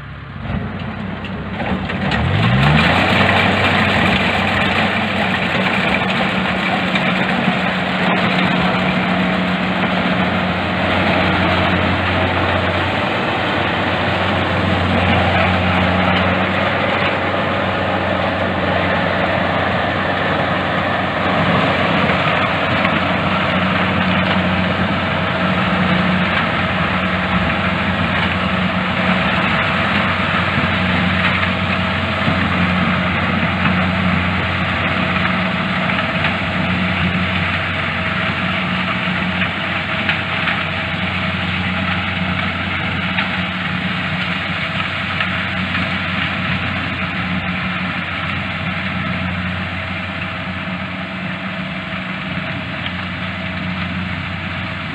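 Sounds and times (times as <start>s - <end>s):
combine harvester diesel engine: 0.0s - 54.9s
machinery whirring: 0.8s - 54.9s.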